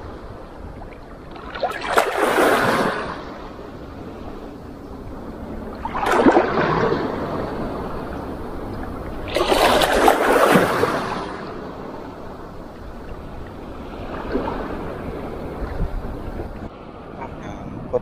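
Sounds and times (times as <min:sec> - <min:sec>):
sea water sloshing and lapping: 0:00.0 - 0:17.1
small waves surging: 0:00.0 - 0:18.0.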